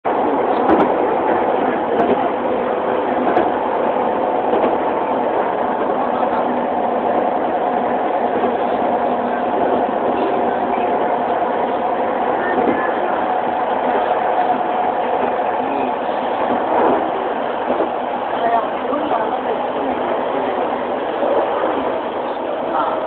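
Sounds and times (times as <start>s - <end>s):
electric train rail noise: 0.1s - 23.0s.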